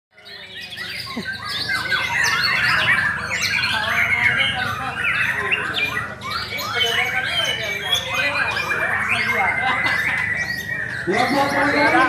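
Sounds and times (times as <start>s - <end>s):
songbirds singing: 0.1s - 12.0s.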